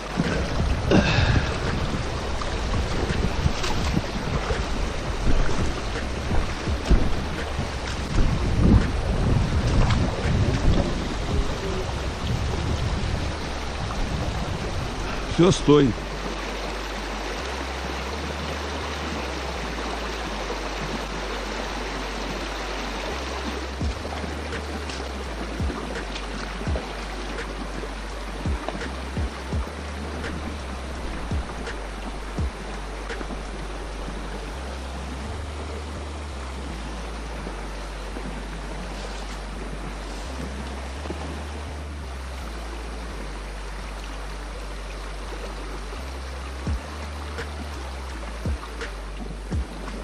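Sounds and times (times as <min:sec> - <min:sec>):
water babbling over stones: 0:00.0 - 0:50.0
wind rumble on microphone: 0:00.0 - 0:50.0.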